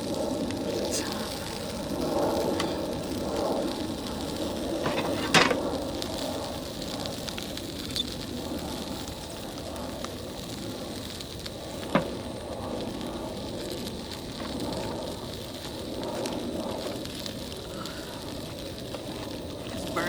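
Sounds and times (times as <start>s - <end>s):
sandwich sizzling in a pan: 0.0s - 20.0s
stove burner flame: 0.0s - 20.0s.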